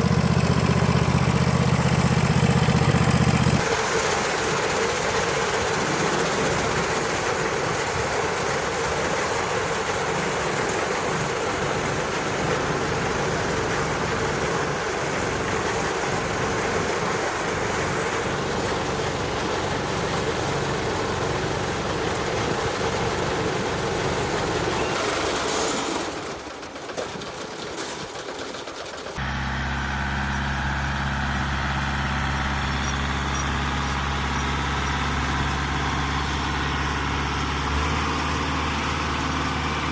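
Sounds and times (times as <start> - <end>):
tractor and baler running: 0.0 - 39.9.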